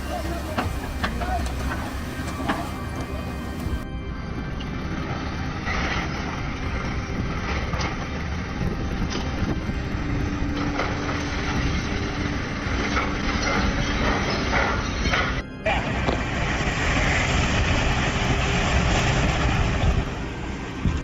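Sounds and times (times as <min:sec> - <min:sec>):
held mechanical tone: 0:00.0 - 0:20.9
excavator engine running: 0:00.0 - 0:21.0.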